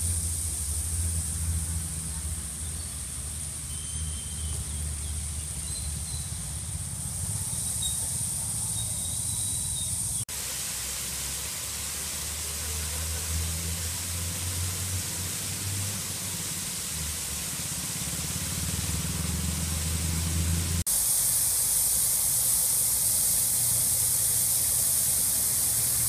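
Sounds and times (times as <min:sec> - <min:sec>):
constant hiss: 0:00.0 - 0:26.0
vehicle engine humming: 0:00.0 - 0:26.0.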